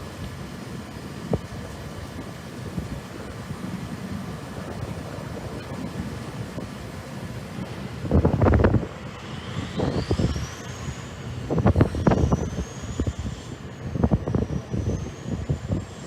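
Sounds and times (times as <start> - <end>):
distant jet aircraft: 0.0 - 16.0
faint high whine: 0.0 - 16.0
wind buffeting microphone: 0.0 - 16.0.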